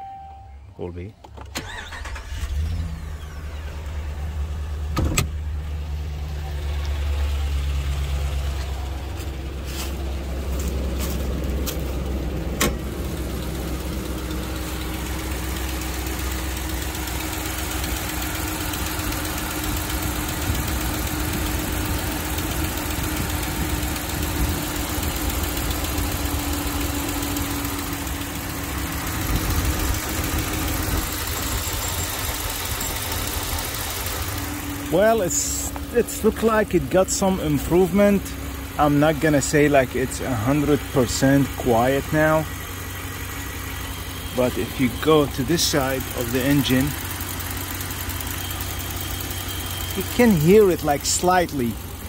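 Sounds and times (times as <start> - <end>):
engine idling: 1.3 - 52.0.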